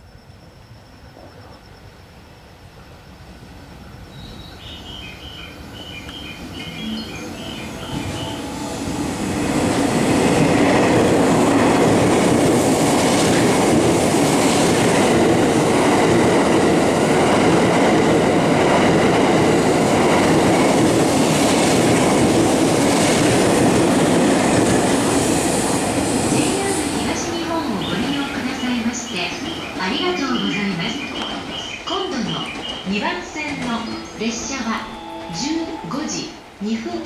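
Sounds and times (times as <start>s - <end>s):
train passing at speed: 0.0s - 37.0s.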